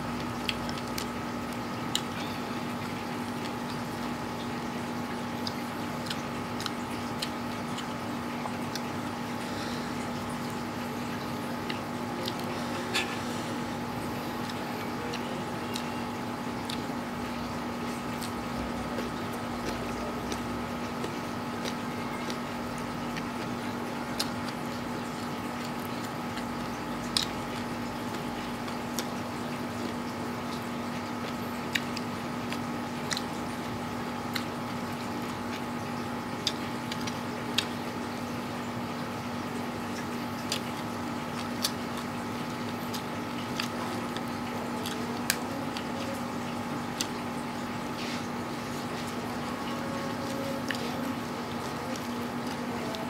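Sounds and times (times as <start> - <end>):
wet chewing and slurping: 0.0 - 38.8, 39.5 - 53.0
steady background hum: 0.0 - 53.0.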